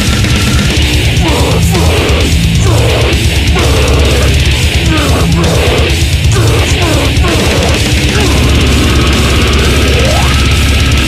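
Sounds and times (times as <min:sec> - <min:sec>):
distorted guitars: 0:00.0 - 0:11.0
extreme metal music: 0:00.0 - 0:11.0
heavy drumming: 0:00.0 - 0:11.0.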